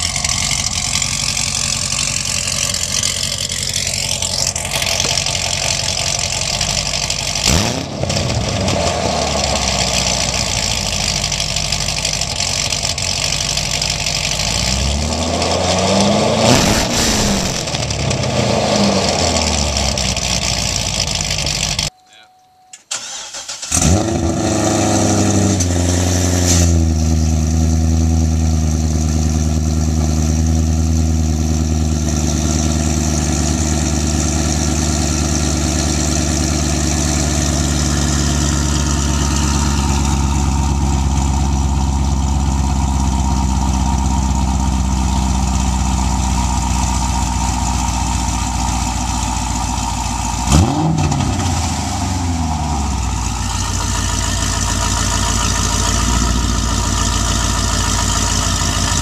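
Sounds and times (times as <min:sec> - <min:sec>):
car engine idling: 0:00.0 - 0:21.9, 0:26.8 - 0:59.0.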